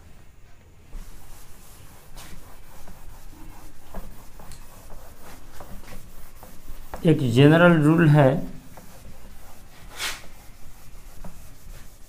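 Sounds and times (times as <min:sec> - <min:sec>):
cloth rubbing on whiteboard: 0:00.9 - 0:12.0.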